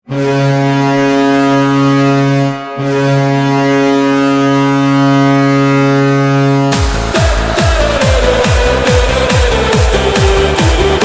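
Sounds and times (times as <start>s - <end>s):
loud low goal horn: 0.0s - 11.0s.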